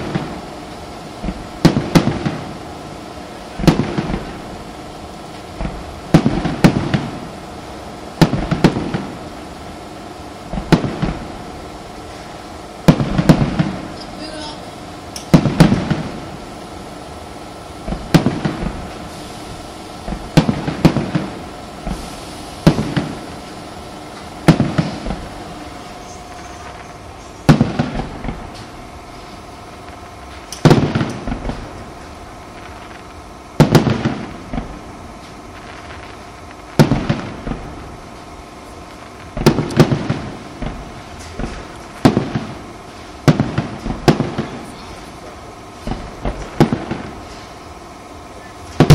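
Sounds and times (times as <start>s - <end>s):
firework crackling: 0.0s - 48.9s
firework shells bursting: 0.0s - 48.9s.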